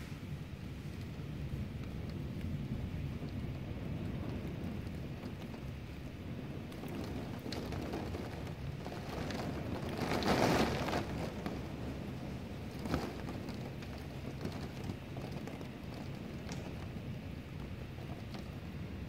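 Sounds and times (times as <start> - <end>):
heavy rain: 0.0 - 19.0
hail ticking: 1.0 - 19.0.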